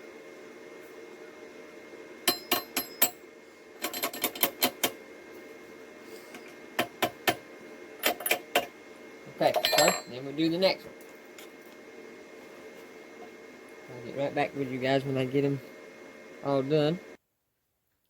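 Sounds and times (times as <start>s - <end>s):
steady hum: 0.0s - 17.2s.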